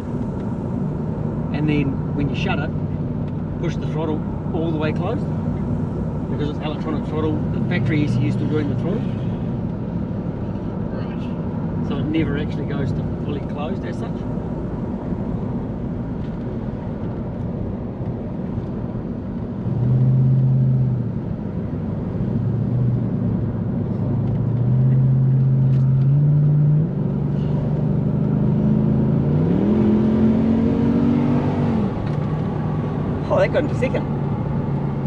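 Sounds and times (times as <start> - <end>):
car engine under throttle: 0.0 - 35.0.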